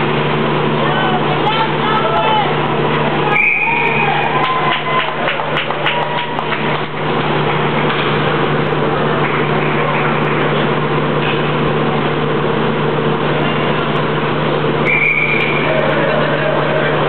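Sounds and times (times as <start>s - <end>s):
skating and crowd noise: 0.0s - 17.0s
steady low hum: 0.0s - 17.0s.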